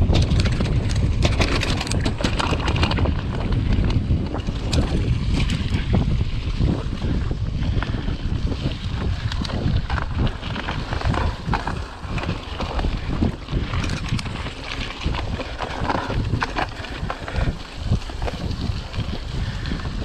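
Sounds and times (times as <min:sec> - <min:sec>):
bike knocks and rattles: 0:00.0 - 0:20.0
wind buffeting microphone: 0:00.0 - 0:20.0.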